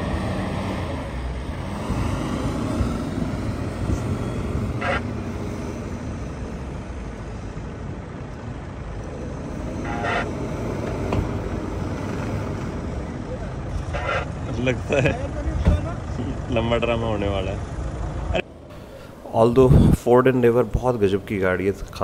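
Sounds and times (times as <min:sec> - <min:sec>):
engine running hard: 0:00.0 - 0:22.0.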